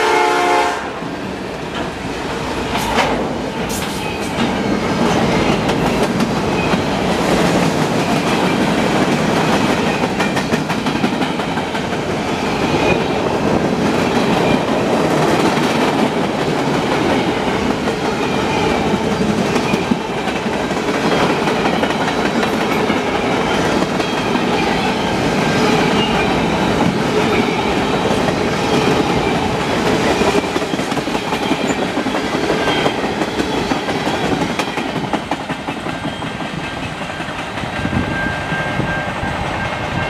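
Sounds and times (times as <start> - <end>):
freight train wheels clattering: 1.4 - 40.0.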